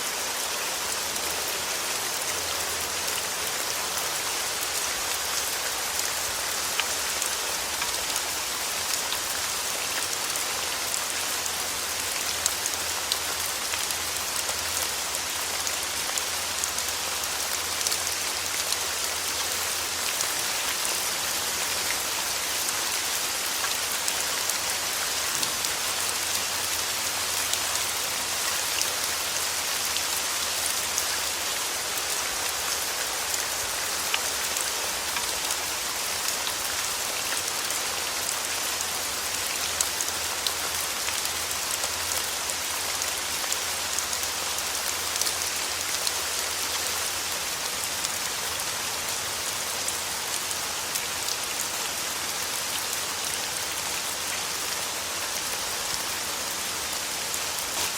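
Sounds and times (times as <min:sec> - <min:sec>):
rain falling on a surface: 0:00.0 - 0:57.9.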